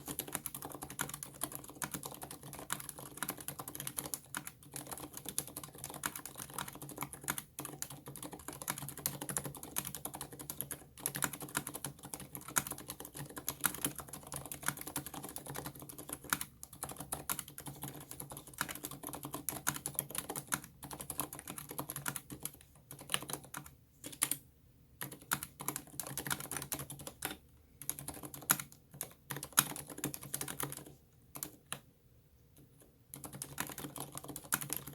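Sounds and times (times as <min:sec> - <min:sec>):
fast typing on mechanical keyboard: 0:00.0 - 0:24.4, 0:25.0 - 0:31.8, 0:33.1 - 0:34.9.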